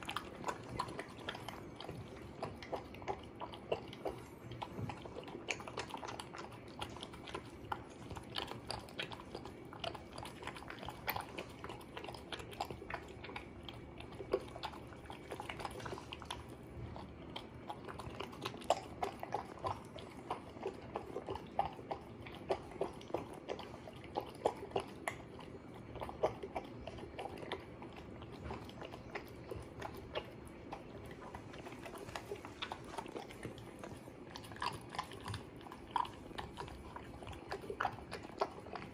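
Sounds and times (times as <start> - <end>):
dog chewing wet food: 0.0 - 38.9.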